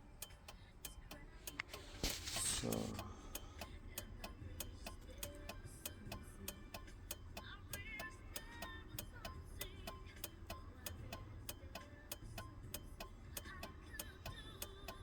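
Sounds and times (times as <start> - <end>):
turn signal clicking: 0.0 - 15.0.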